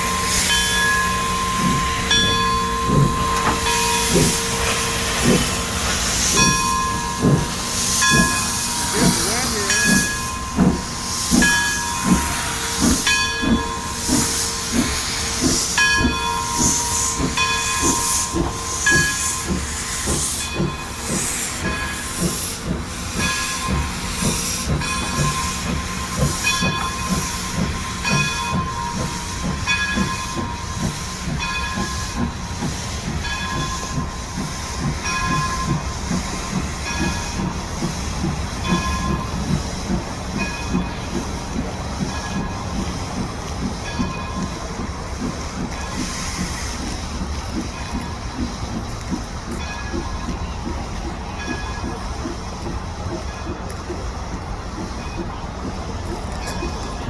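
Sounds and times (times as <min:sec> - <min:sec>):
steam hissing: 0:00.0 - 0:57.0
steam locomotive chuffing: 0:00.0 - 0:57.0.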